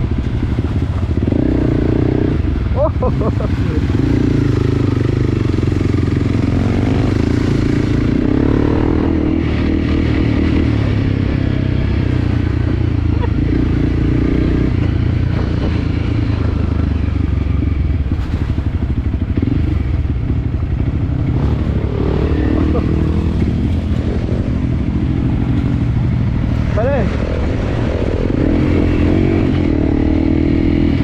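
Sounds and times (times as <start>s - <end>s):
motorcycle engine running: 0.0s - 31.0s
motorcycle rattling: 0.0s - 31.0s.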